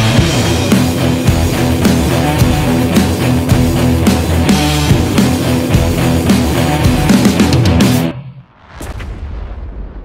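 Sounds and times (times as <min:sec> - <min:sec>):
loud rock music with guitar: 0:00.0 - 0:08.4.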